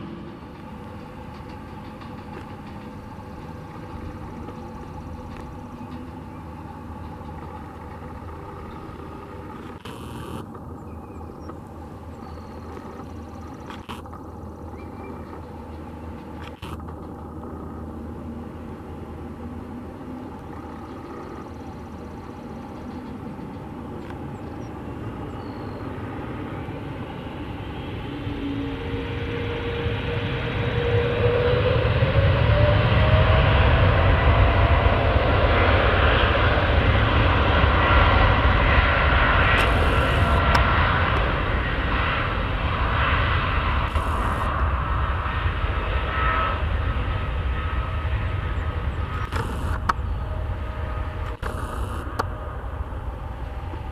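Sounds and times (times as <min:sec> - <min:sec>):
jet engines spooling up: 0:00.0 - 0:53.9.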